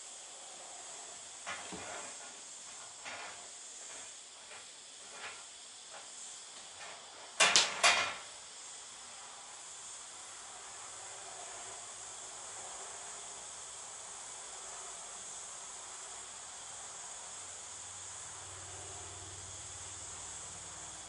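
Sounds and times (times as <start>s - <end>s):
high hiss: 0.0s - 21.0s.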